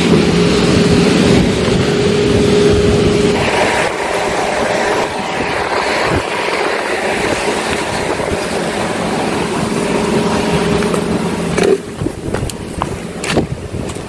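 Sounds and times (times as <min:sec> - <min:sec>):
engine hum: 0:00.0 - 0:14.0
wind noise on microphone: 0:00.0 - 0:14.0.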